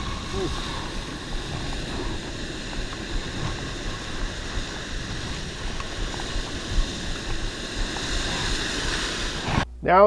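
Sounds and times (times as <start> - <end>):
ocean surf hissing: 0.0 - 9.6
low surf rumble: 0.0 - 10.0.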